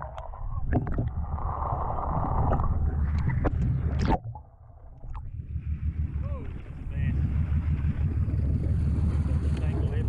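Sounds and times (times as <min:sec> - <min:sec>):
muffled underwater rush: 0:00.0 - 0:10.0.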